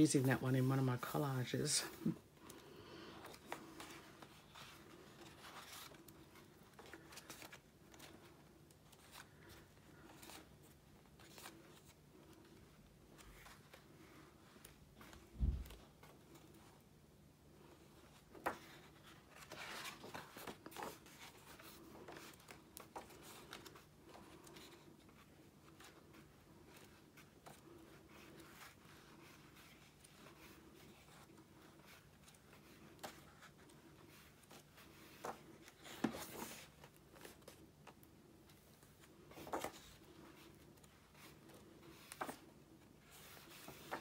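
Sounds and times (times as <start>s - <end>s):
book pages turning: 0.0s - 16.9s, 17.5s - 44.0s.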